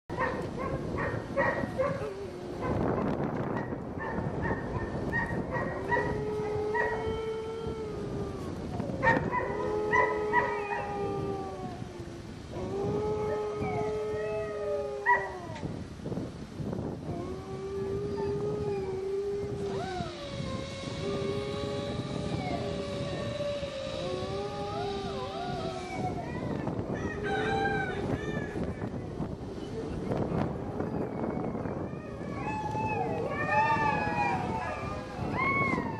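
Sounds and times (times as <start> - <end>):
dog howling: 0.1 - 15.8, 16.8 - 35.9.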